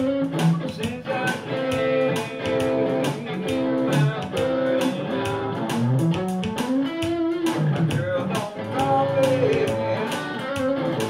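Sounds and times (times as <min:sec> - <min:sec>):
electric guitar gospel shuffle: 0:00.0 - 0:11.0
steady drum beat: 0:00.0 - 0:11.0.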